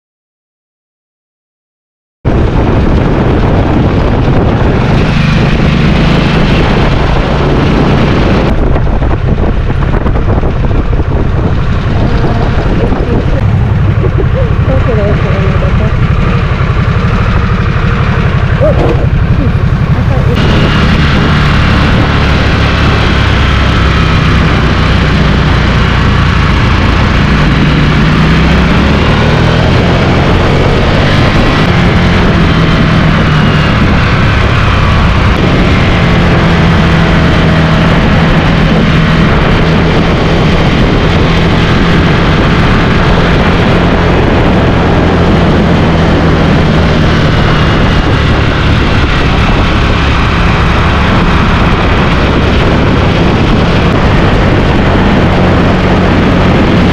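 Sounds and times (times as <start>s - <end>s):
dense rushing noise: 2.3s - 56.9s
motorcycle engine running: 2.3s - 56.9s.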